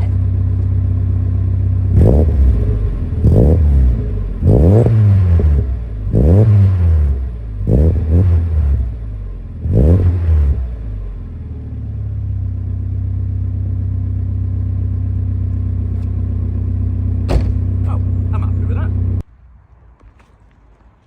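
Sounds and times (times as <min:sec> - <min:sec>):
car engine idling and revving: 0:00.0 - 0:19.3.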